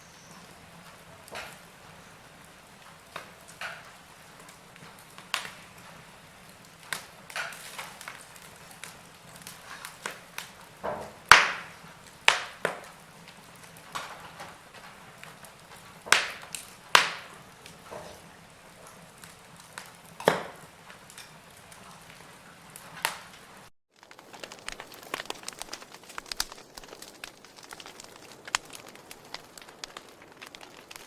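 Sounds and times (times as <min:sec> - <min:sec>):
faint fire hiss: 0:00.0 - 0:31.0
wood fire crackling: 0:00.0 - 0:31.0.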